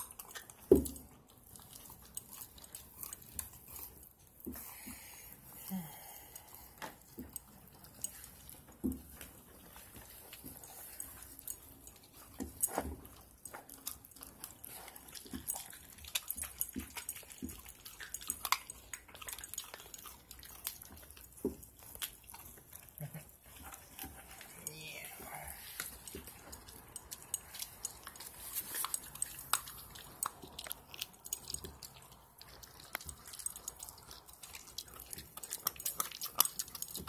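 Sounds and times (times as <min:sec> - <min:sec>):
puppy crunching bone: 0:00.0 - 0:37.0.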